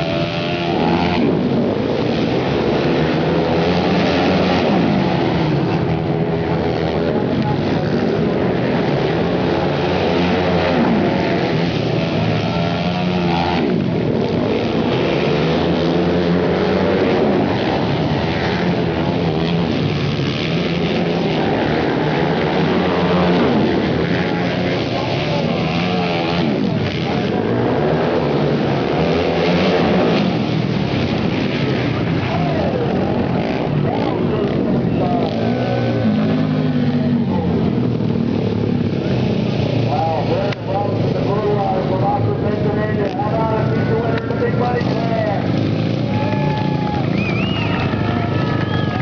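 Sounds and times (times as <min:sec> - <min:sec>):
racing motorcycle engines: 0:00.0 - 0:49.0.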